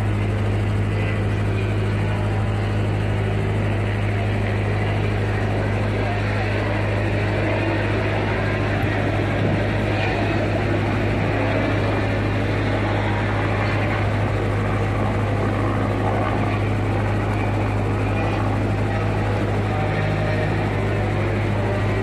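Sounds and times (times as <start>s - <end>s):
drone of distant engines: 0.0s - 22.0s.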